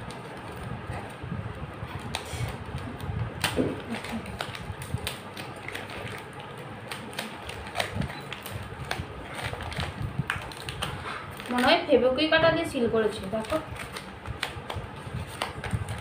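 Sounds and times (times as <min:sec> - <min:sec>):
paper and plastic crinkling: 0:00.0 - 0:16.0.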